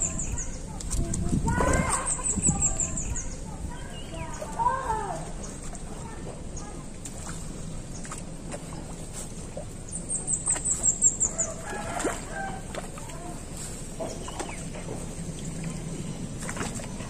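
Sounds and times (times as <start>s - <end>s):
low clucking bird calls: 0.0s - 17.0s.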